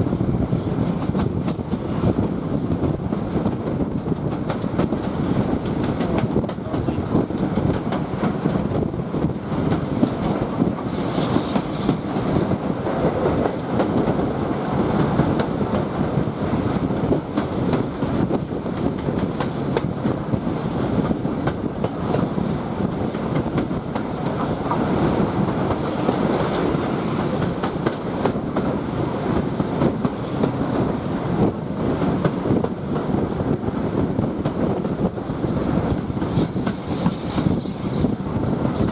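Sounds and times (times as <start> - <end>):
train carriage rumble: 0.0 - 38.9
train wheels clickety-clack: 0.0 - 38.9.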